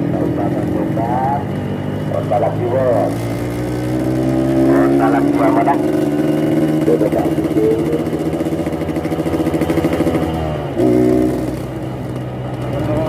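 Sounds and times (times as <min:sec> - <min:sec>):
motorcycle engine growling: 0:00.0 - 0:13.0.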